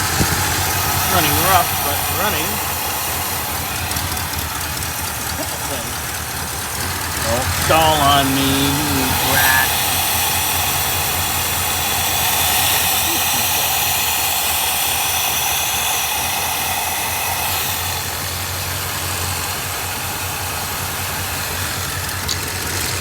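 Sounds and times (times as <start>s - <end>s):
car engine idling rough: 0.0s - 23.0s
strong steady hiss: 0.0s - 23.0s.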